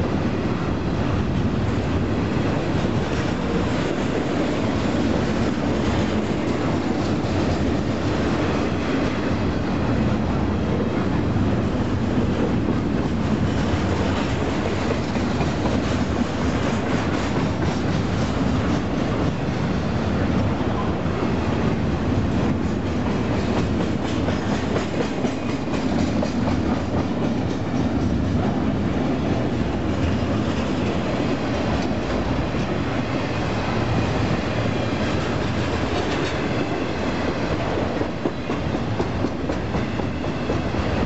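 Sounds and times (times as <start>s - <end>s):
steel wheels on rail: 0.0s - 41.0s.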